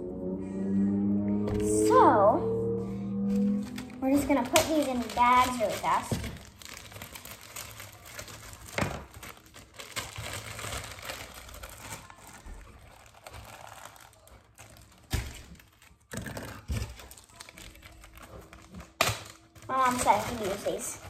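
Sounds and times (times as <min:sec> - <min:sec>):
plastic bags crinkling: 0:03.6 - 0:21.0.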